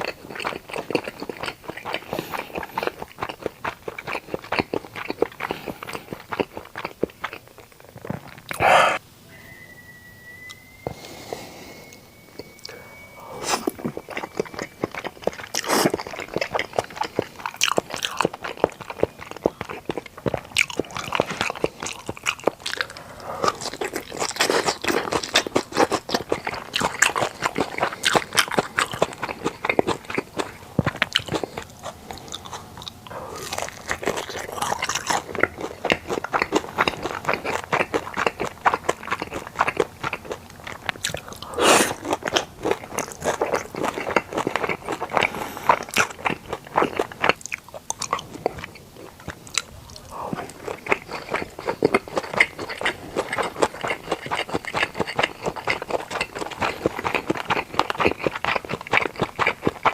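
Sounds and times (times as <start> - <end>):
person chewing food: 0.0 - 9.0, 10.5 - 59.9.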